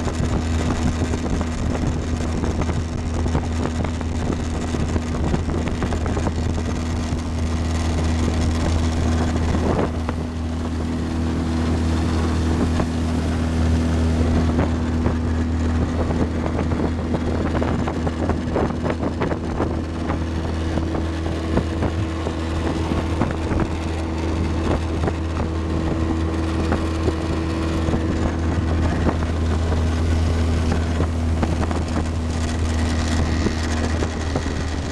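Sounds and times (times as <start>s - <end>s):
motorboat engine droning: 0.0s - 34.9s
water rushing past hull: 0.0s - 34.9s
wind buffeting microphone: 0.0s - 34.9s.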